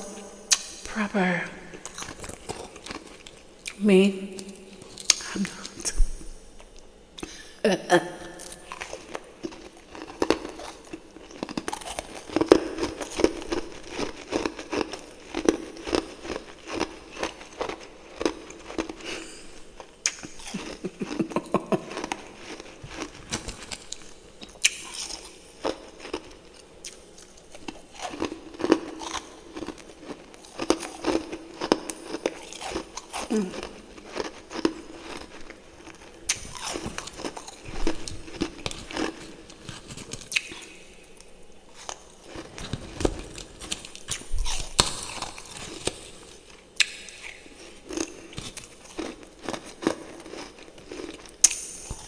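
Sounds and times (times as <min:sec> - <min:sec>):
crunching and chewing frost: 0:00.0 - 0:07.4, 0:08.3 - 0:52.0.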